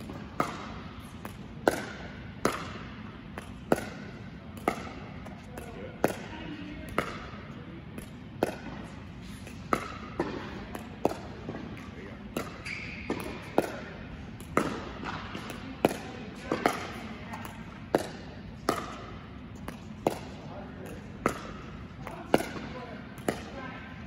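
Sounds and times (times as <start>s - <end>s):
paddles hitting plastic ball: 0.0s - 6.3s, 6.9s - 23.6s
ball bouncing on court: 0.0s - 23.8s.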